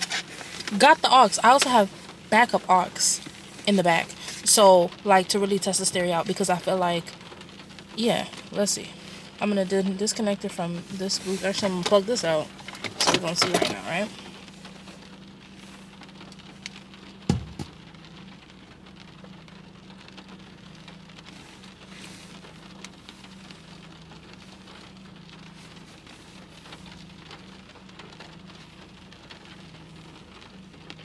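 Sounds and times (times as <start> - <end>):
rain pattering on car roof: 0.0 - 31.0.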